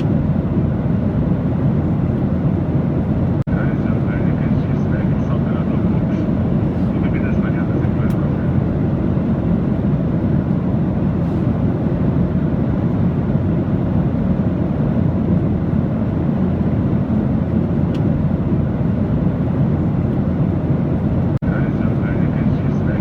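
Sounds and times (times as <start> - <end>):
aircraft rumble: 0.0 - 23.0.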